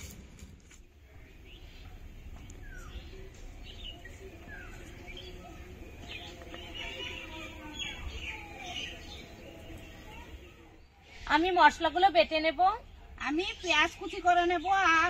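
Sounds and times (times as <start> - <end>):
birds chirping: 0.9 - 15.0.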